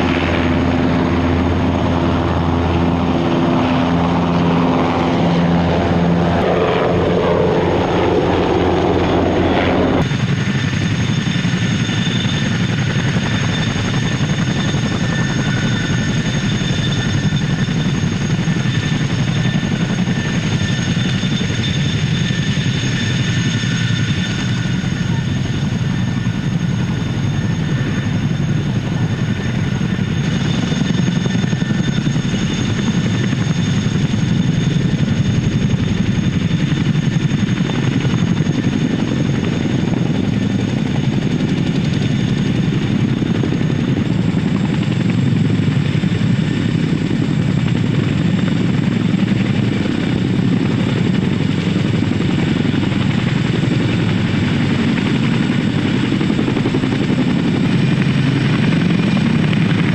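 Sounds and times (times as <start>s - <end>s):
helicopter rotor noise: 0.0s - 59.9s
turbine engine whine: 0.0s - 59.9s.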